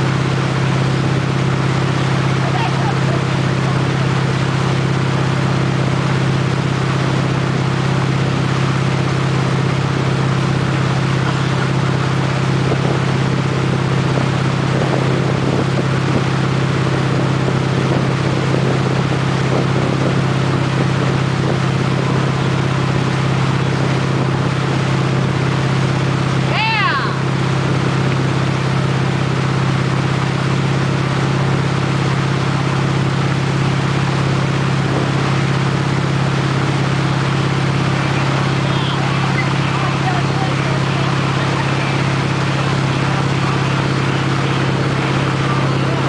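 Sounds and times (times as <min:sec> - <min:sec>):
churning wake water: 0:00.0 - 0:46.0
motorboat engine drone: 0:00.0 - 0:46.0.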